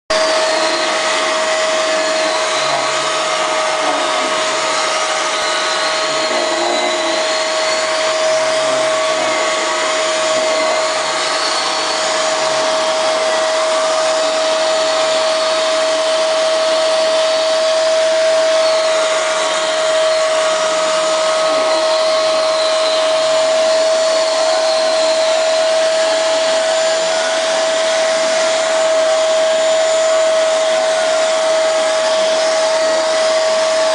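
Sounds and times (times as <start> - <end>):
vacuum cleaner whining: 0.1 - 33.9.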